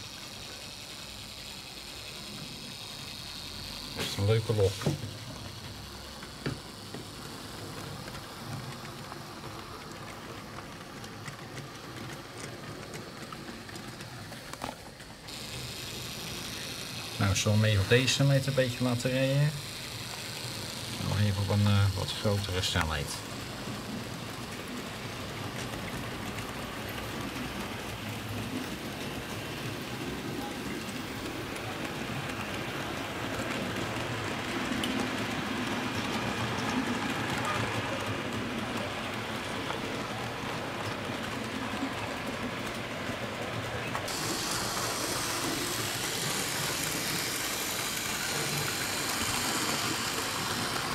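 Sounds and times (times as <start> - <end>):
model train whirring: 0.0 - 50.9
wheels clicking on rails: 0.0 - 50.9.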